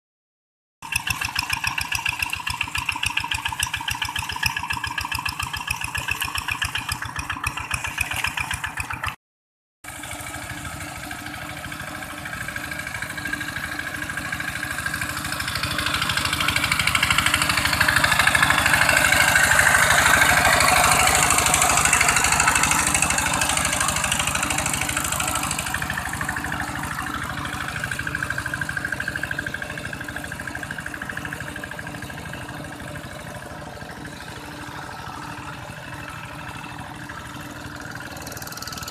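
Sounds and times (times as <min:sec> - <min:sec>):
diesel engine running steadily: 0:00.8 - 0:09.2, 0:09.8 - 0:38.9.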